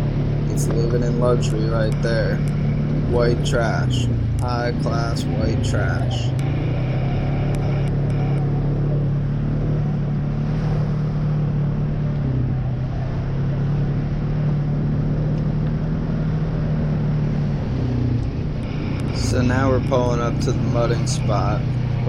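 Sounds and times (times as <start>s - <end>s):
atv engine droning: 0.0s - 22.0s.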